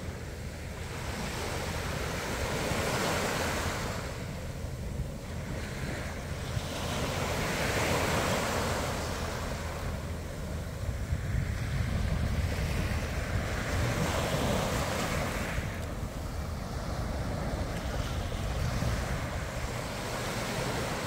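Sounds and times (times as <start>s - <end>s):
waves breaking on sandy beach: 0.0s - 21.0s
wind rumble on microphone: 0.0s - 21.0s.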